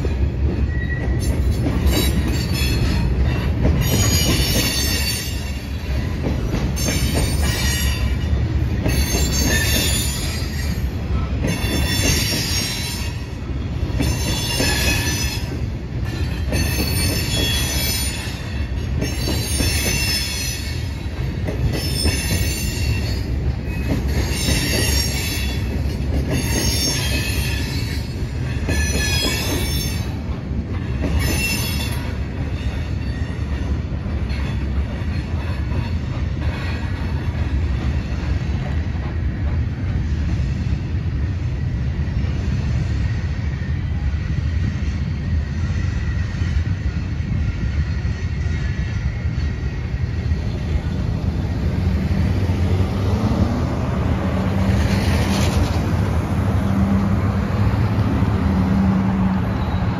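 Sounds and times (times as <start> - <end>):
train wheels squealing: 0.0 - 52.8, 54.5 - 56.1, 57.6 - 59.9
train rumbling: 0.0 - 59.9.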